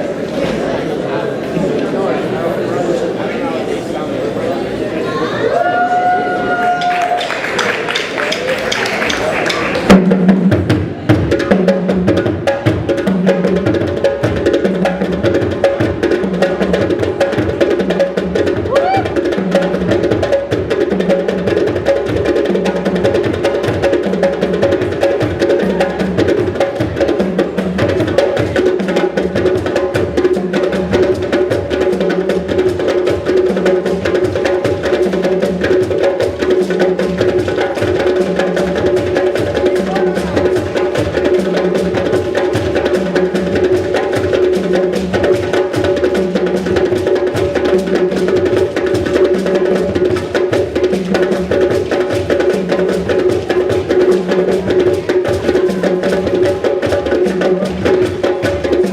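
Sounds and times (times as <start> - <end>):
hand drumming ensemble: 5.6 - 58.9.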